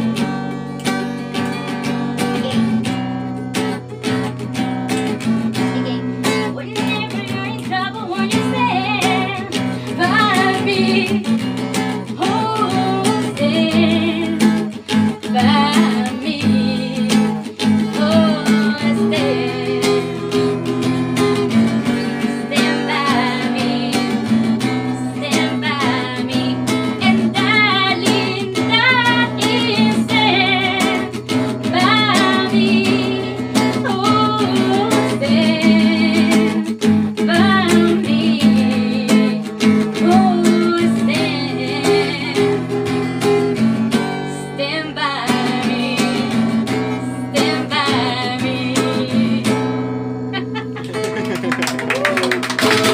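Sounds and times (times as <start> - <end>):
strummed acoustic guitar: 0.0 - 52.9
woman singing with vibrato: 6.4 - 50.8.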